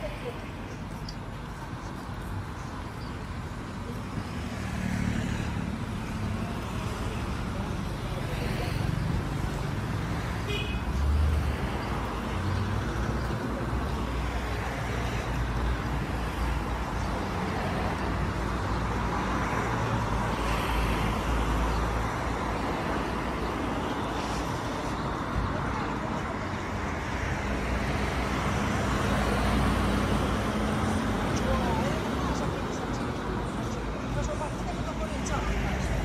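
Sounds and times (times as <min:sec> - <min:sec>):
cars driving past: 0:00.0 - 0:36.0.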